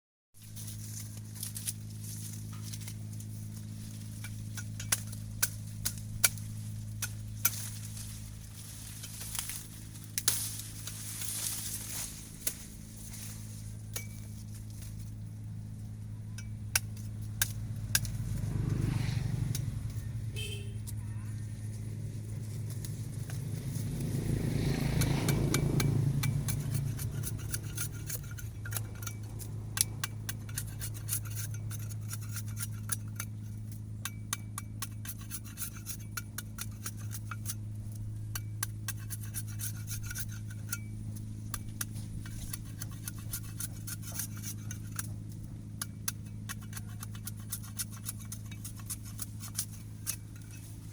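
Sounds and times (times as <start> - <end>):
knife scraping sugarcane: 0.4 - 15.2, 16.2 - 50.9
steady low hum: 0.4 - 50.9.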